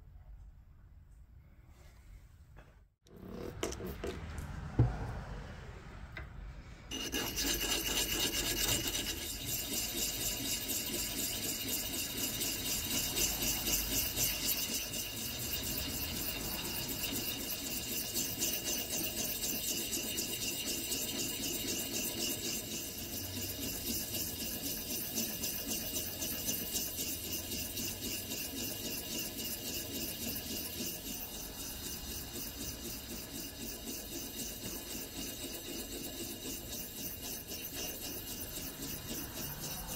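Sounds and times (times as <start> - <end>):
hone rasping on axe edge: 6.9 - 20.4, 21.2 - 39.9.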